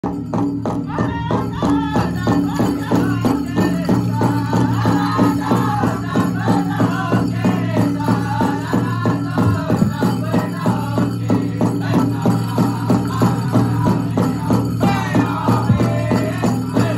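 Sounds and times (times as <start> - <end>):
fast steady drumbeat: 0.0 - 16.9
jingling leg bells: 0.3 - 16.9
group singing: 0.9 - 16.9.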